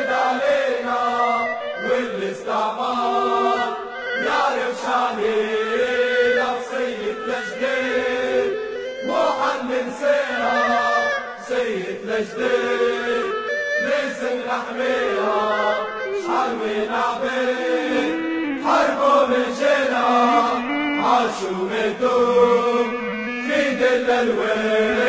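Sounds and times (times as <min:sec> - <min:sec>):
choir chanting: 0:00.0 - 0:25.0.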